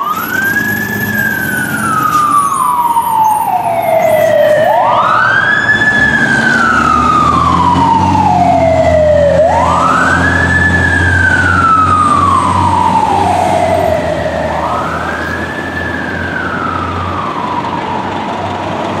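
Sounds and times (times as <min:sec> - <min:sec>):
fire truck siren wailing: 0:00.0 - 0:19.0
heavy truck engine rumble: 0:00.0 - 0:19.0.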